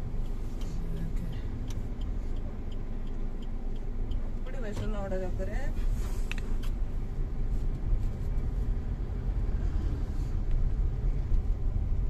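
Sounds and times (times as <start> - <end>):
car cabin engine and road rumble: 0.0 - 12.0.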